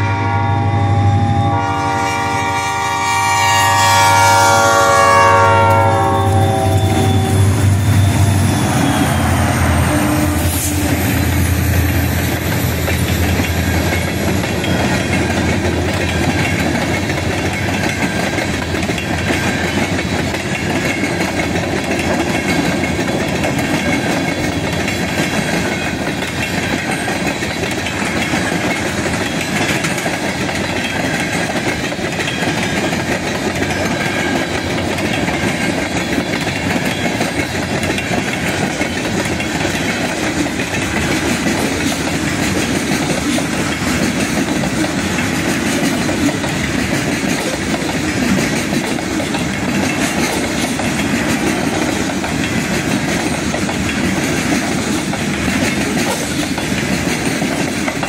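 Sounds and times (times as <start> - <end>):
freight train rolling past: 0.0 - 58.0
wheels clacking over rail joints: 5.8 - 58.0.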